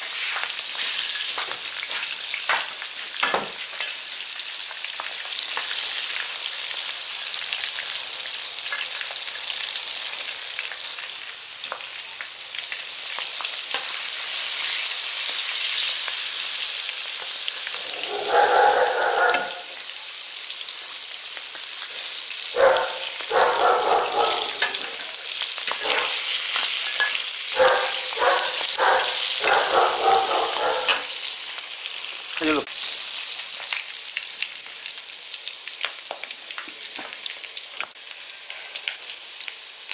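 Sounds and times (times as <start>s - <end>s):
pork sizzling in hot oil: 0.0s - 39.9s.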